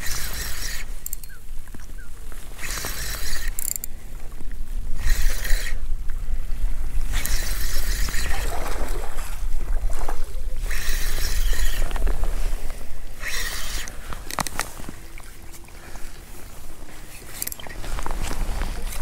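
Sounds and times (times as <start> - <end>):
wind buffeting microphone: 1.3 - 19.0.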